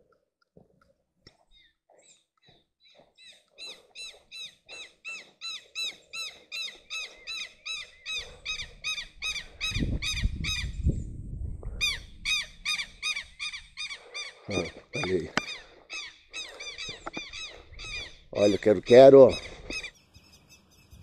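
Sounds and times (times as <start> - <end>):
bird shrill squeaky cries: 2.8 - 10.7, 11.9 - 20.9.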